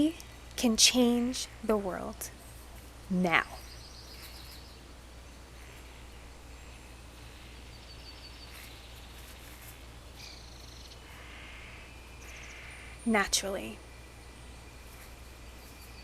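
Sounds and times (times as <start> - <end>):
steady low hum: 0.0 - 16.0
small birds chirping: 2.3 - 16.0.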